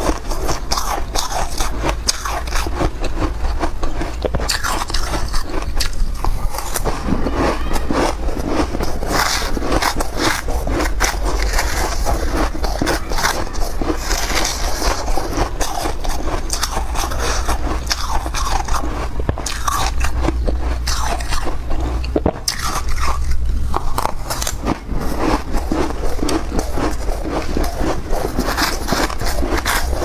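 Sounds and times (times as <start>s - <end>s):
chewing crunchy frost: 0.0s - 30.0s
scraping: 0.0s - 30.0s.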